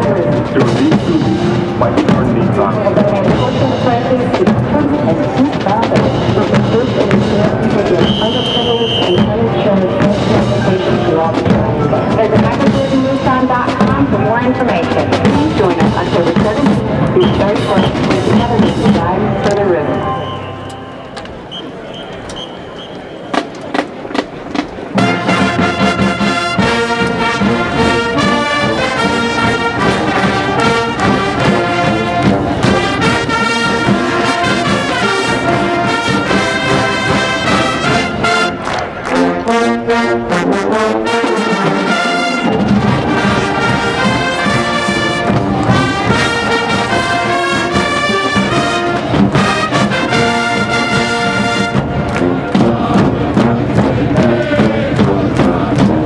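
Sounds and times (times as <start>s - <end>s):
marching drums: 0.0s - 20.0s, 22.6s - 56.0s
marching band brass: 0.0s - 56.0s.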